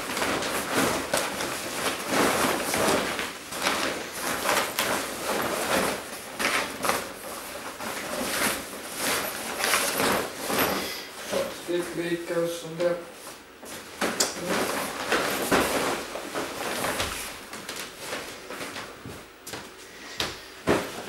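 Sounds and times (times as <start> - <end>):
household items rustling and knocking: 0.0 - 12.2, 12.8 - 21.0.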